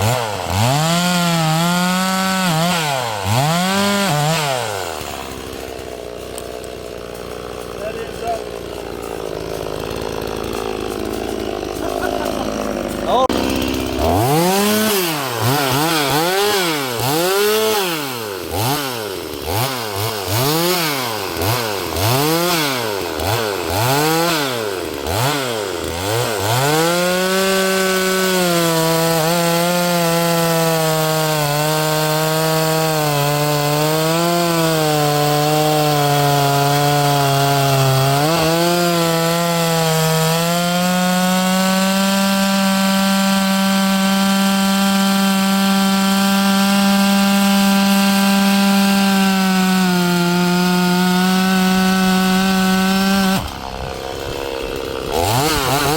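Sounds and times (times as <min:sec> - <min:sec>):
chainsaw revving and cutting log: 0:00.0 - 0:55.9.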